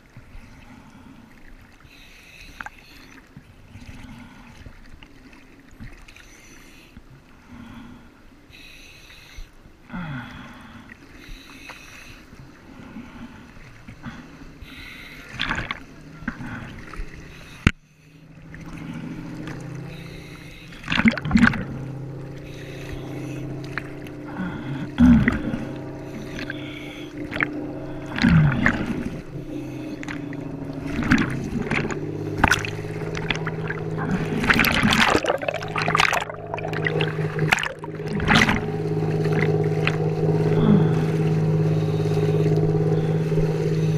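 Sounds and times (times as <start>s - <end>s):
seawater sloshing and splashing: 0.0s - 7.3s, 10.4s - 43.9s
boat engine running: 0.0s - 43.9s.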